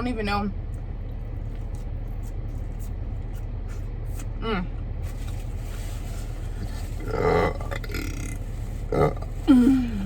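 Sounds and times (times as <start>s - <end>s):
low hum inside car: 0.0s - 10.0s.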